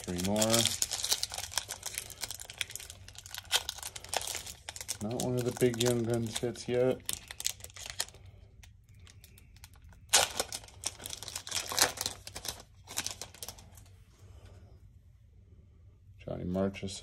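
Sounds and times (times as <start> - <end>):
foil wrapper crinkling: 0.0 - 13.9.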